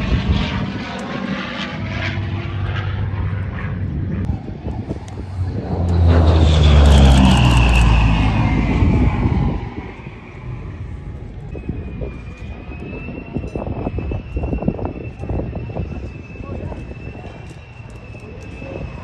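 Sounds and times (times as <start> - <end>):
jet fighter passing over: 0.0 - 19.0.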